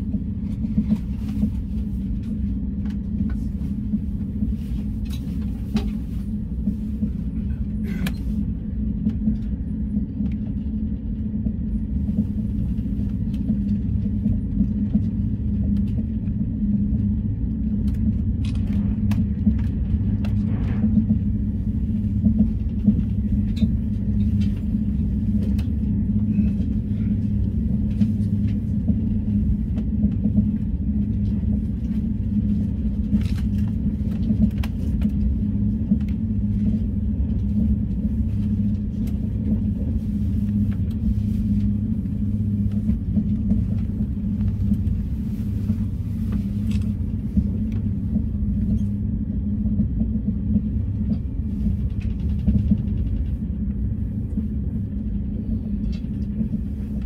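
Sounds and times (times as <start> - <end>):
train running rumble: 0.0 - 57.0.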